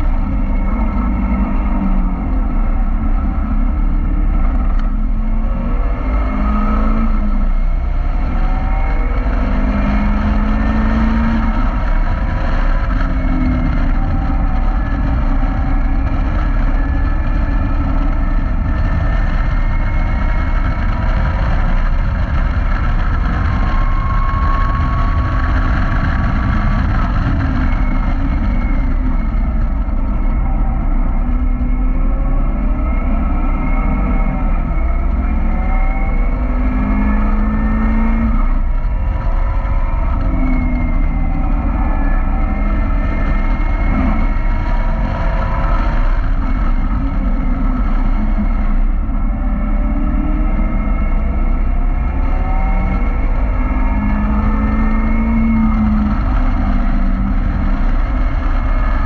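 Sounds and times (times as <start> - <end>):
car engine accelerating: 0.0 - 59.0
wind rumble on microphone: 0.0 - 59.0.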